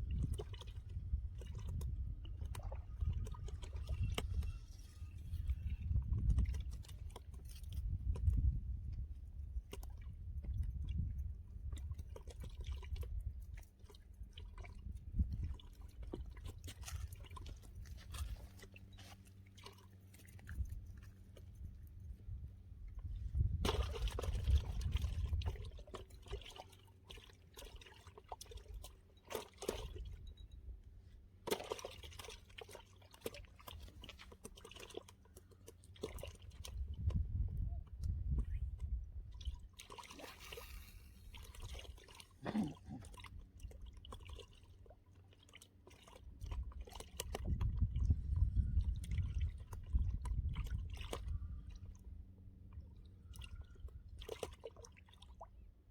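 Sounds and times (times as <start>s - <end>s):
water sloshing and splashing: 0.0s - 55.9s.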